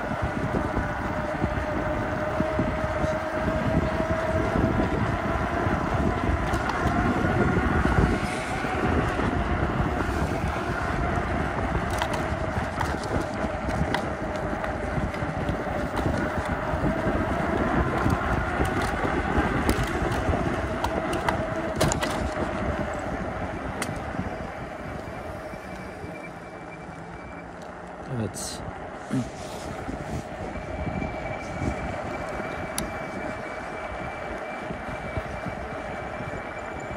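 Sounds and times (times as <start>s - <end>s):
wind buffeting microphone: 0.0s - 26.2s, 27.9s - 36.9s
electric motor whine: 0.0s - 28.0s, 28.8s - 36.9s.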